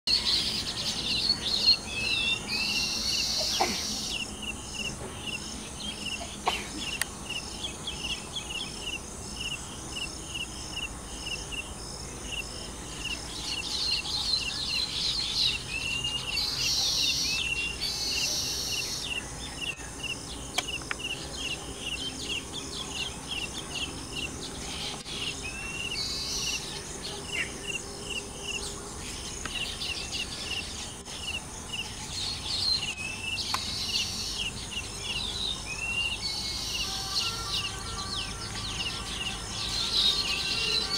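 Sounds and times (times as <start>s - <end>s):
weaver birds chirping: 0.1s - 40.9s
wheezy buzzing bird song: 0.1s - 40.9s.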